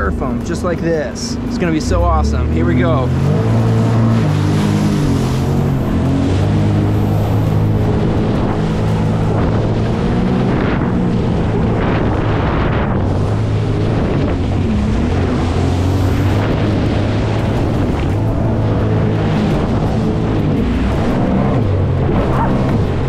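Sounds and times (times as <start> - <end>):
jet ski engine running: 0.0 - 23.0
wind buffeting microphone: 0.0 - 23.0.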